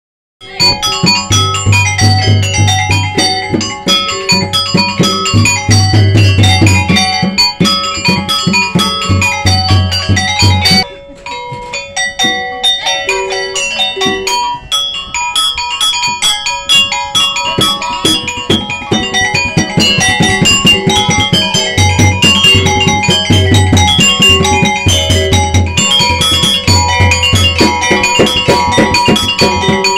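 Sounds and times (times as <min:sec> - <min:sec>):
gamelan metallophone runs: 0:00.4 - 0:29.9.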